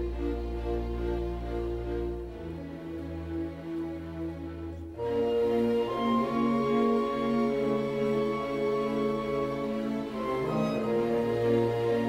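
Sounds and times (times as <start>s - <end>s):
orchestral strings playing: 0.0s - 12.0s.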